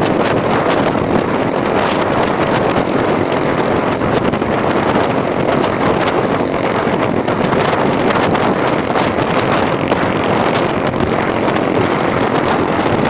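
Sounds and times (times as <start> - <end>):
moving vehicle running: 0.0 - 13.0
wind on microphone: 0.0 - 13.0.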